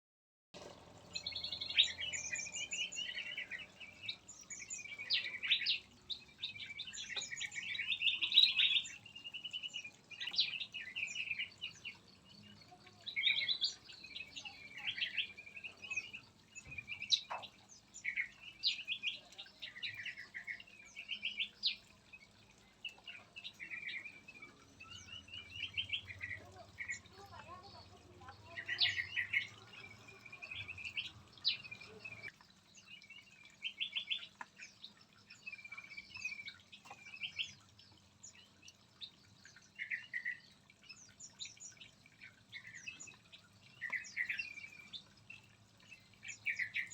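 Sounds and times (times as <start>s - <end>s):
songbirds chirping and singing: 0.6s - 46.9s.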